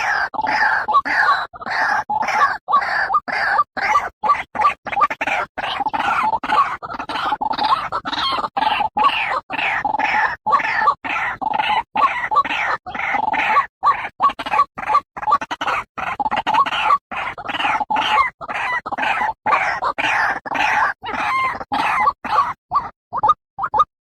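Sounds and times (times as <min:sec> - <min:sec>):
waterhen calling: 0:00.0 - 0:23.9.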